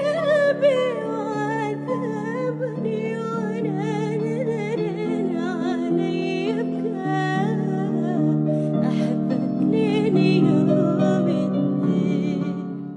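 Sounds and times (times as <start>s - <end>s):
person singing with vibrato: 0.0s - 12.9s.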